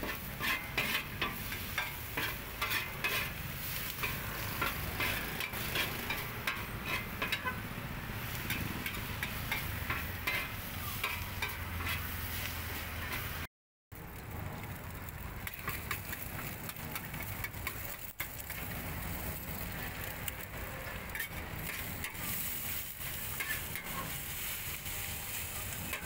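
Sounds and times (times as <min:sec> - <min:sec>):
metal spatula scraping wok: 0:00.0 - 0:13.5, 0:15.4 - 0:26.0
food sizzling: 0:00.0 - 0:26.0.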